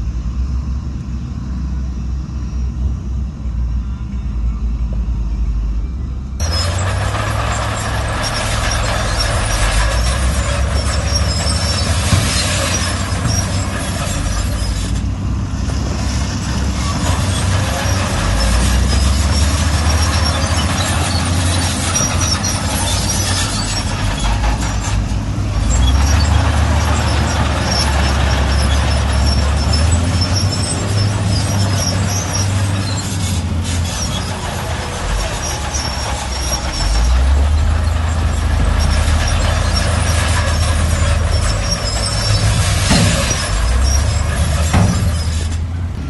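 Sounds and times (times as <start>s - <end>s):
heavy diesel engines rumbling: 0.0s - 46.0s.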